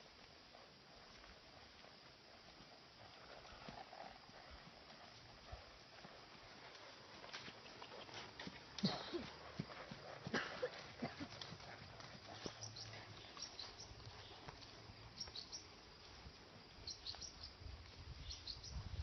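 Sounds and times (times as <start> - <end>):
hoofbeats on grass: 0.0 - 19.0.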